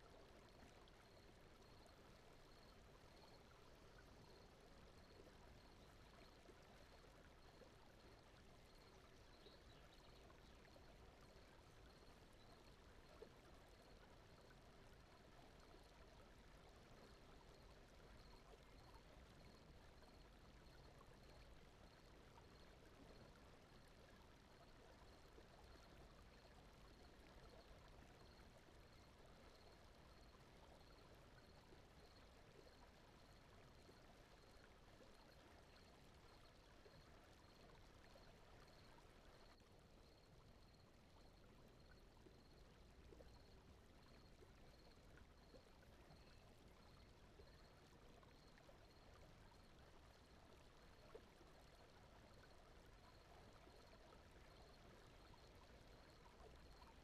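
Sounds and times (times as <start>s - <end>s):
soft background noise: 0.0s - 57.0s.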